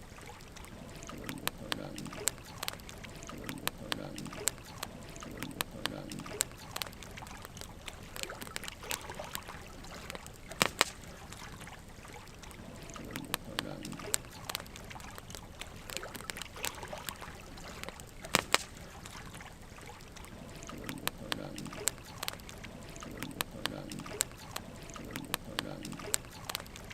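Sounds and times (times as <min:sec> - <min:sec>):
wood fire crackling and popping: 0:00.7 - 0:26.9.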